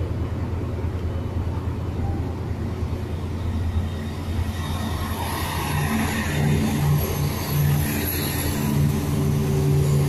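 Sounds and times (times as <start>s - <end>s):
diesel train engine drone: 0.0s - 10.0s.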